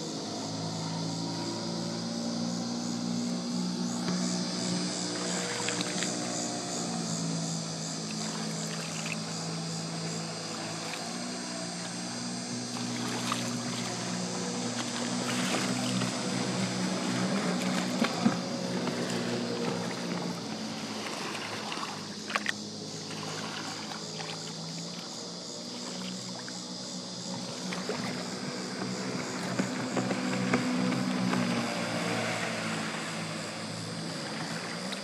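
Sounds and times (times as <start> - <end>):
jet boat engine drone: 0.0 - 35.0.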